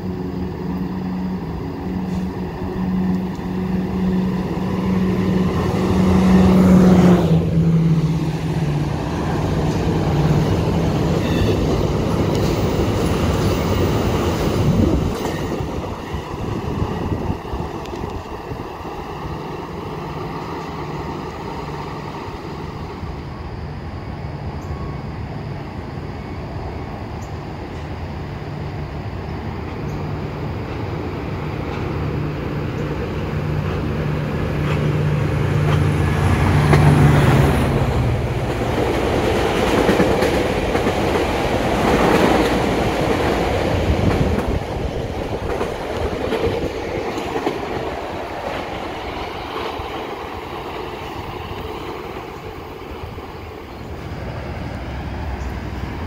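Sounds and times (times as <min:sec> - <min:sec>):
train low drone: 0:00.0 - 0:56.0.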